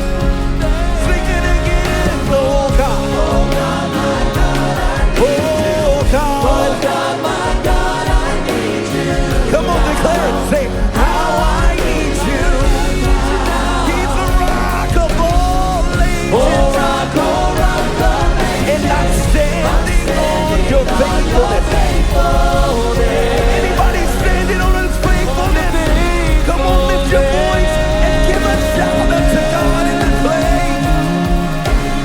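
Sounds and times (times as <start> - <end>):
live worship band playing: 0.0 - 32.0
person singing: 0.0 - 32.0.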